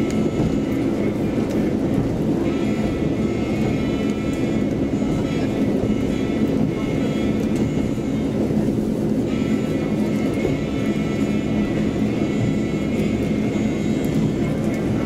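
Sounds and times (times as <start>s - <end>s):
train engine and wheels rumbling: 0.0s - 15.0s.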